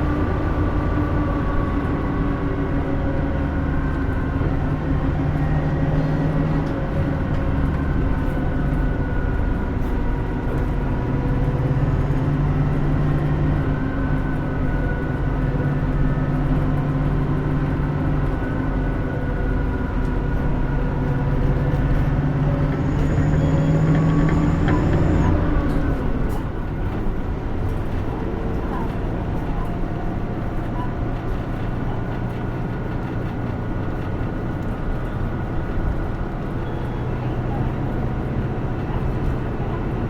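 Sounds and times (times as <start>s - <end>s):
bus diesel engine running: 0.0s - 40.0s
road noise: 0.0s - 40.0s.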